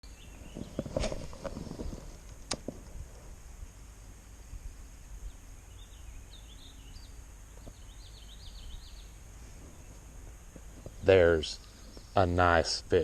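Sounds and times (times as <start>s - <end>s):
songbird chirping: 0.0s - 2.9s, 3.6s - 13.0s.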